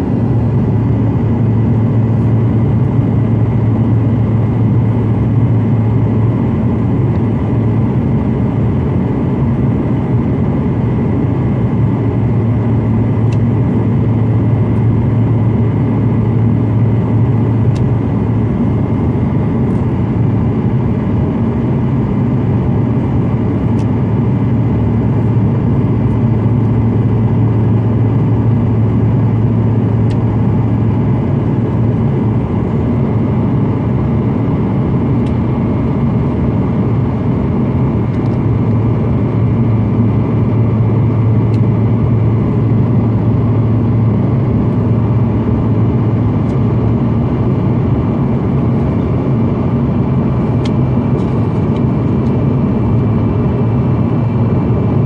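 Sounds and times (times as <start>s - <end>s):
jet cabin engine drone: 0.0s - 55.0s.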